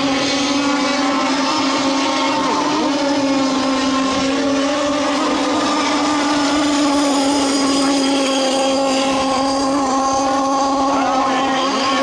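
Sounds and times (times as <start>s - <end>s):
model boat engine whine: 0.0s - 12.0s.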